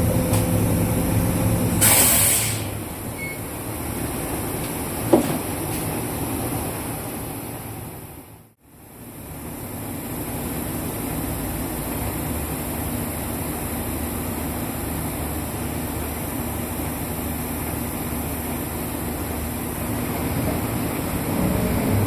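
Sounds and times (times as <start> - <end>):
bus engine: 0.0 - 22.0
road noise: 0.0 - 22.0.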